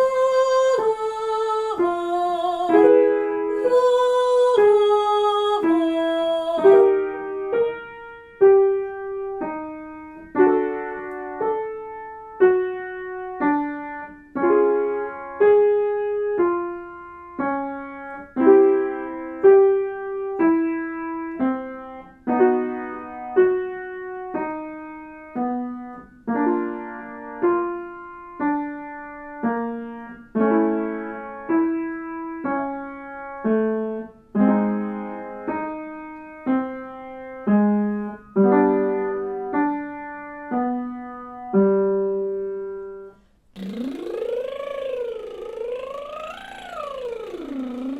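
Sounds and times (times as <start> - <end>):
piano chords: 0.0 - 47.9.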